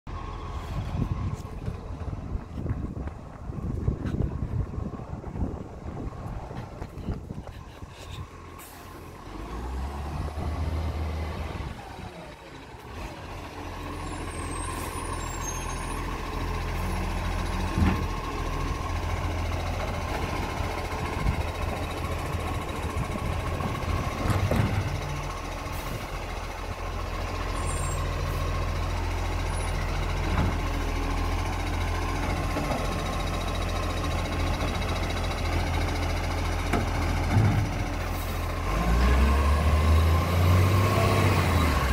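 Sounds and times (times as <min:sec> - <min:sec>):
garbage truck diesel engine: 0:00.1 - 0:41.9.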